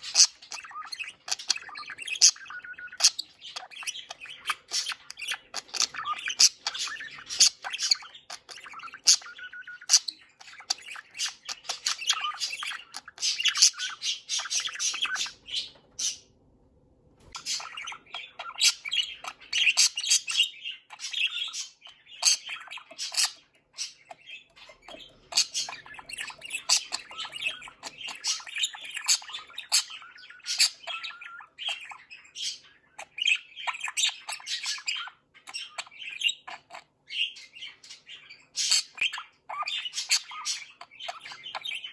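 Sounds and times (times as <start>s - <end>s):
budgerigars chattering: 0.0s - 16.3s, 17.3s - 41.9s.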